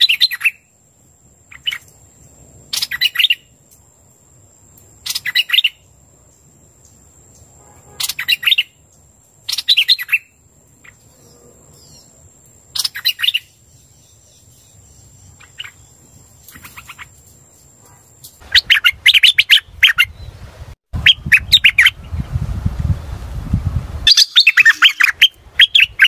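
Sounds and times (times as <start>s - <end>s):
bird chirping song: 0.0s - 3.8s, 5.0s - 22.4s, 24.1s - 26.0s.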